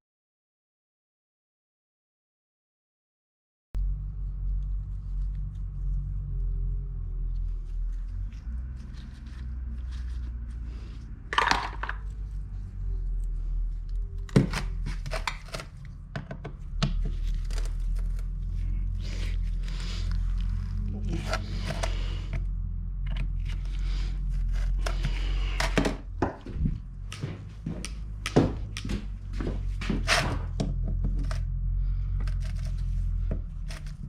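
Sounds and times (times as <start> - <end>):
steady low hum: 3.8 - 34.0.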